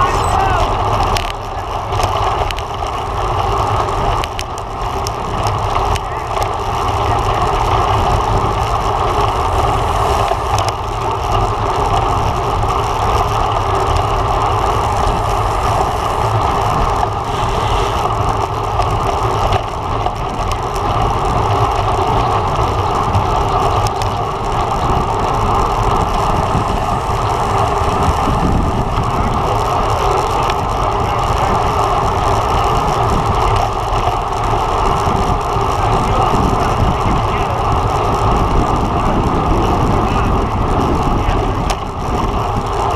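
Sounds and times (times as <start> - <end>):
tyres rumbling on road: 0.0 - 42.9
wind rush over microphone: 0.0 - 42.9.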